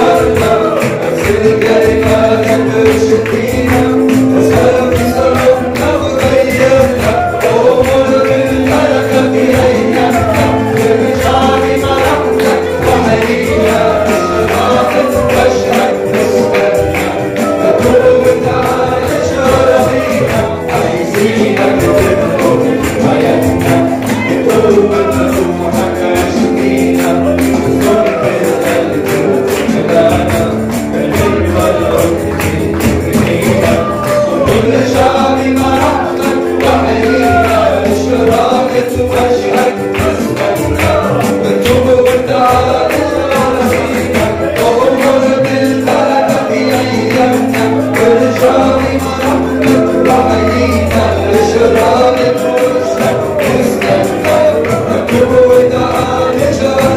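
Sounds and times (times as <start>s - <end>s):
congregation singing: 0.0s - 56.9s
tambourine shaking: 0.0s - 56.9s.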